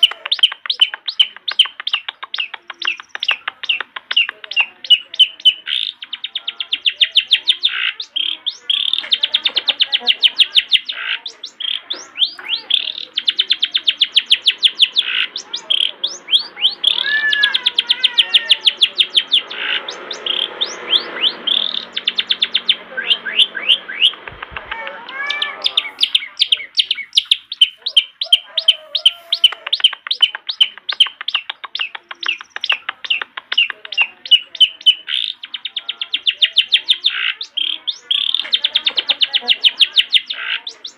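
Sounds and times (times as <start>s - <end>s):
shrike singing: 0.0s - 40.9s.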